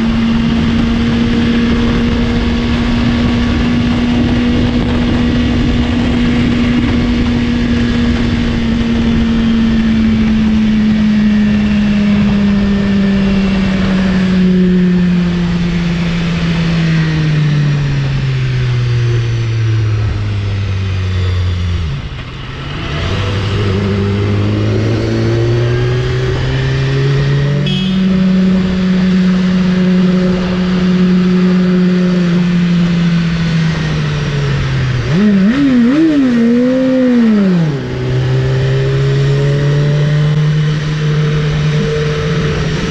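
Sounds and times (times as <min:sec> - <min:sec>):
motorcycle engine running: 0:00.0 - 0:22.2, 0:23.5 - 0:39.0
road and wind noise: 0:00.0 - 0:42.9.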